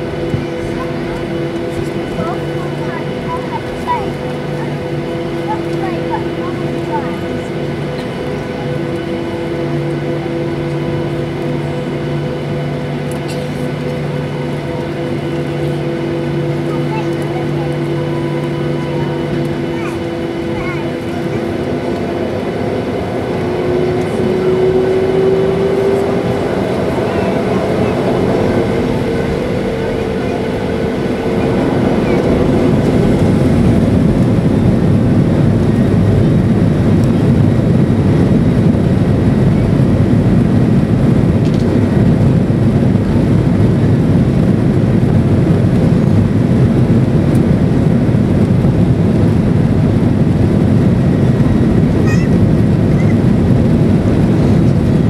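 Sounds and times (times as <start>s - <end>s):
jet engines spooling up: 0.0s - 55.0s
rush of jet engine noise: 0.0s - 55.0s.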